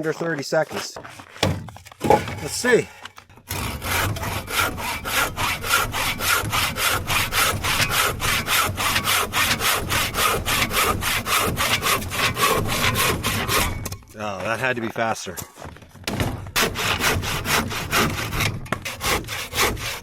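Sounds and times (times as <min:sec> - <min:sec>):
hand saw cutting wood: 0:00.0 - 0:14.0, 0:16.4 - 0:20.0.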